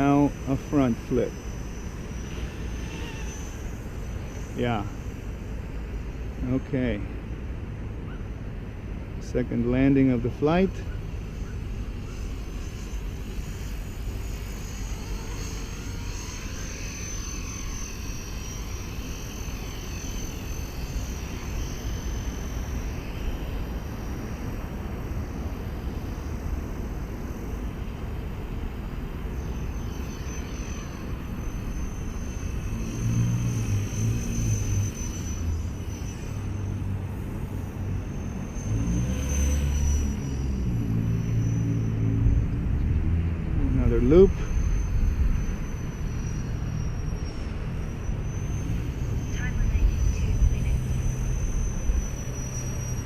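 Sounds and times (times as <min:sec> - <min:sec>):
rc helicopter rotor whine: 0:00.0 - 0:53.0.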